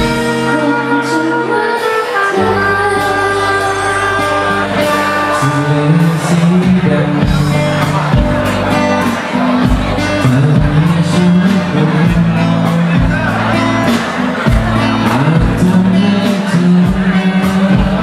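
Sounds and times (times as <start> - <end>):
steady drum beat: 0.0 - 0.8, 4.1 - 18.0
bass line: 0.0 - 18.0
person singing: 0.0 - 18.0.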